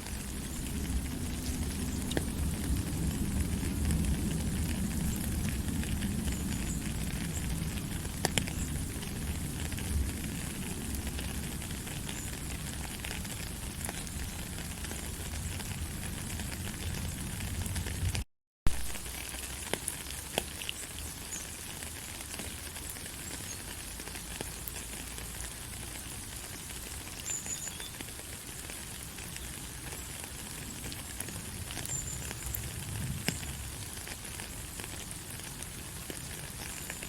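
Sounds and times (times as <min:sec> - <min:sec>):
raindrop ticks: 0:00.0 - 0:37.0
steady rain hiss: 0:00.0 - 0:37.0.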